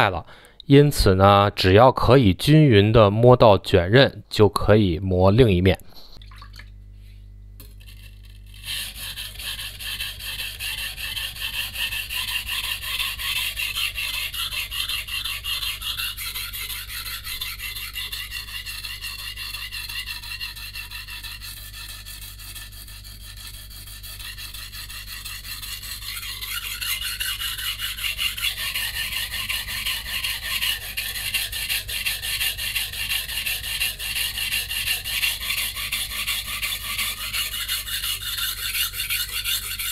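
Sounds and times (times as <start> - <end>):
knife rasping on whetstone: 7.6 - 39.9.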